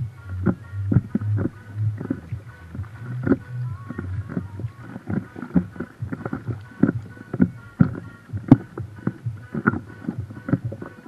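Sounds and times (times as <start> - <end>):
waves slapping boat hull: 0.0 - 11.0.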